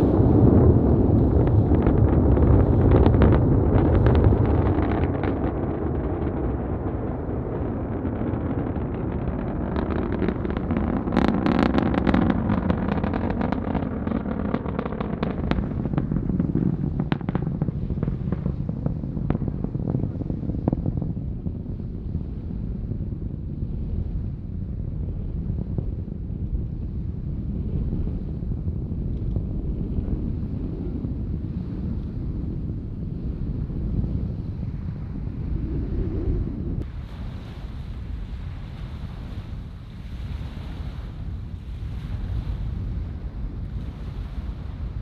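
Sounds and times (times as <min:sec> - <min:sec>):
rocket engines rumbling and crackling: 0:00.0 - 0:45.0.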